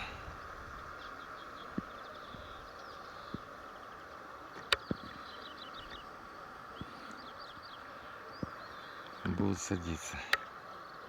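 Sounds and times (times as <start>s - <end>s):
small birds chirping: 0.0s - 11.0s
steady hiss: 0.0s - 11.0s.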